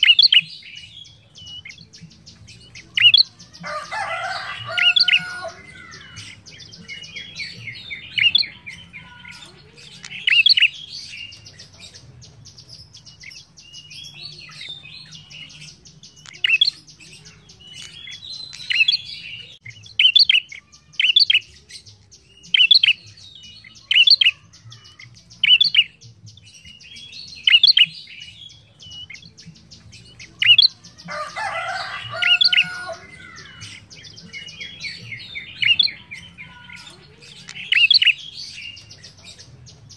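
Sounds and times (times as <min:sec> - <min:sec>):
bird chirping: 0:00.0 - 0:39.9
harsh bird chatter: 0:00.0 - 0:39.9.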